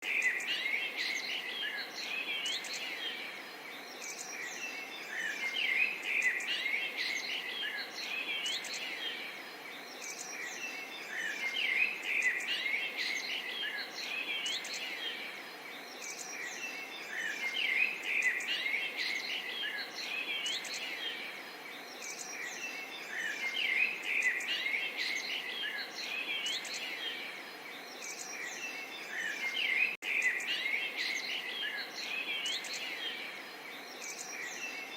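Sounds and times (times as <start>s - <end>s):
songbirds chirping and singing: 0.0s - 34.9s.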